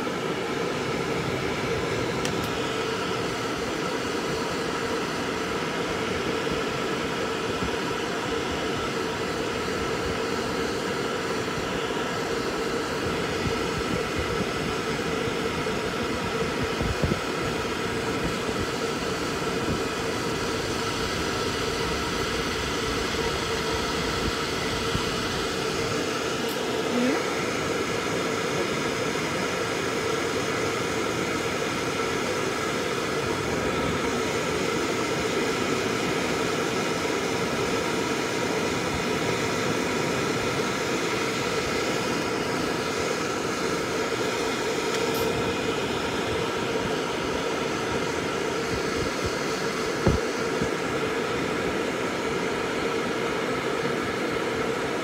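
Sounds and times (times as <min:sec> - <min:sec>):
motor hum: 0:00.0 - 0:54.6
blower air rushing: 0:00.0 - 0:55.0.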